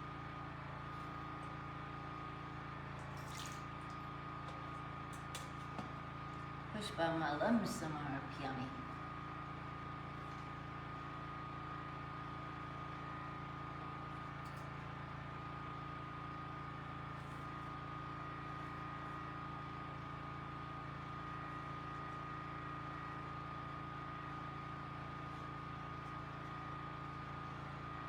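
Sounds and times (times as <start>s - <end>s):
generator humming: 0.0s - 28.0s.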